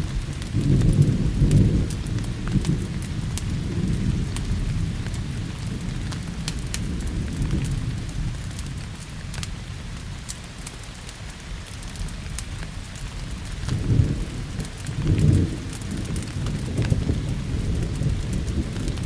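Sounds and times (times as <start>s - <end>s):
thunder rumbling: 0.0s - 10.0s, 13.2s - 19.0s
steady rain: 0.0s - 19.0s
wood fire crackling: 0.0s - 19.0s.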